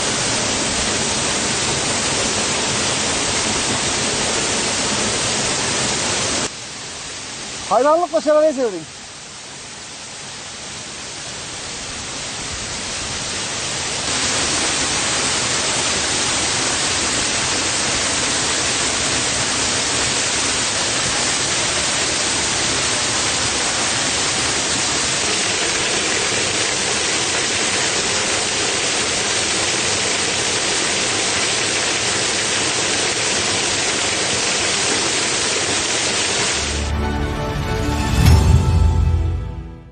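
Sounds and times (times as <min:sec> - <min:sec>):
waterfall rushing: 0:00.0 - 0:39.8.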